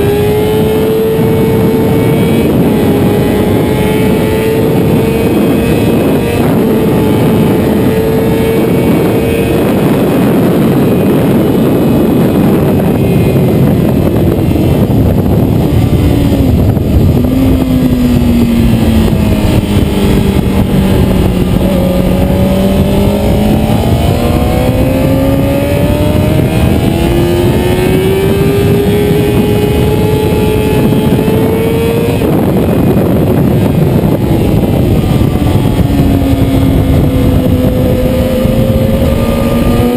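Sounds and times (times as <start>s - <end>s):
loud wind rush: 0.0s - 39.9s
motorcycle engine running hard: 0.0s - 39.9s.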